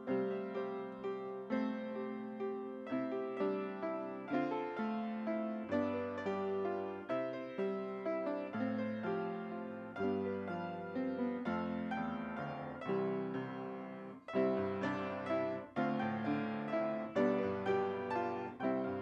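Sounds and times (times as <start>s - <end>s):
piano chords: 0.0s - 19.0s.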